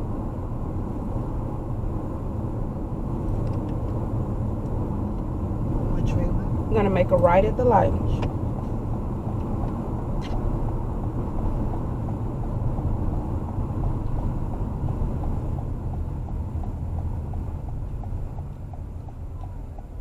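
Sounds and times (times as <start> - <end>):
road and engine rumble: 0.0 - 20.0
turn signal ticking: 3.3 - 20.0.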